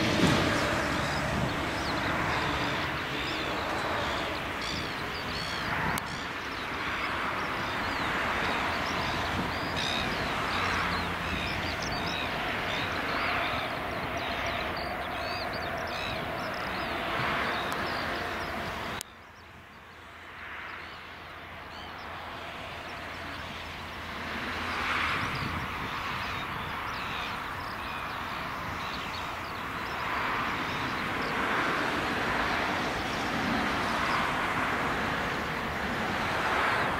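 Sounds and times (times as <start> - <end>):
jet engines humming: 0.0 - 19.0, 20.8 - 36.9
birds chirping: 0.0 - 36.9.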